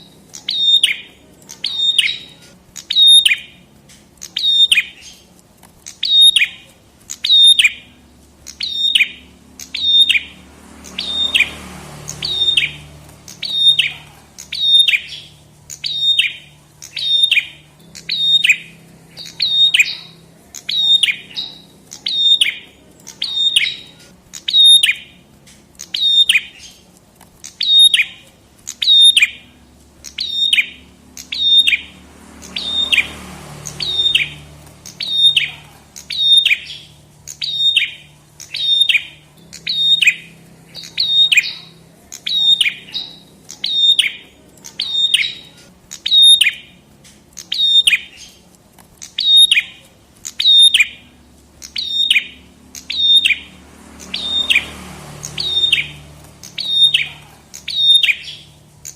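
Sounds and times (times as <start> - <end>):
bird calling with downward notes: 0.0 - 46.8, 47.4 - 58.9.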